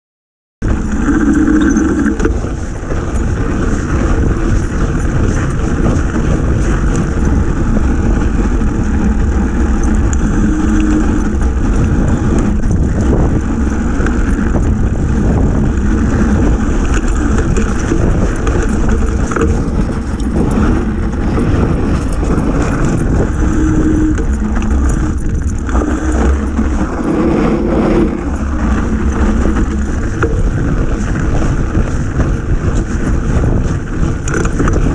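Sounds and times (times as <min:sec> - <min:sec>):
bike tyre rolling over snow: 0:00.6 - 0:34.9
wind rumble on microphone: 0:00.6 - 0:34.9.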